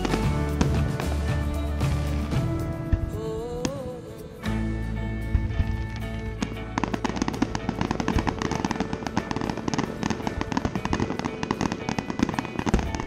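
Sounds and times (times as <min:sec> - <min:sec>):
fireworks bangs and crackles: 0:00.0 - 0:04.6, 0:05.3 - 0:13.0.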